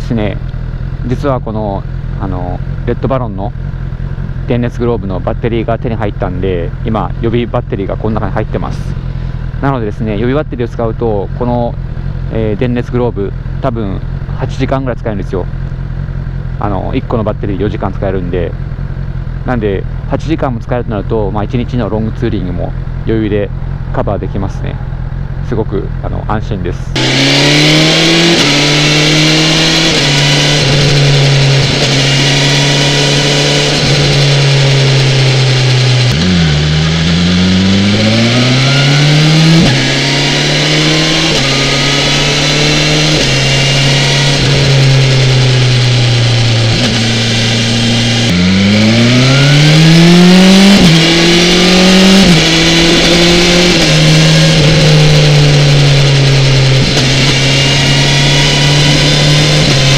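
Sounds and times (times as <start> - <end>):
motorcycle engine revving and shifting: 0.0 - 26.1, 26.7 - 59.9.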